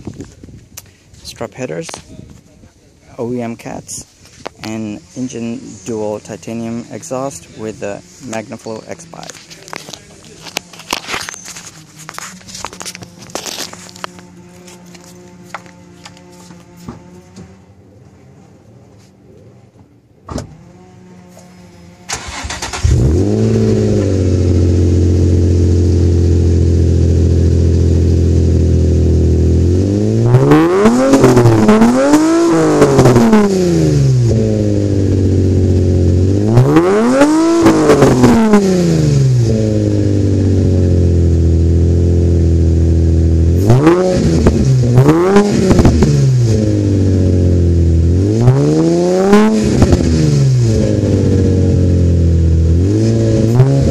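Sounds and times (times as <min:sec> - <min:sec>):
car engine idling and revving: 0:03.1 - 0:53.9
car engine cranking: 0:04.2 - 0:17.6, 0:20.2 - 0:53.9.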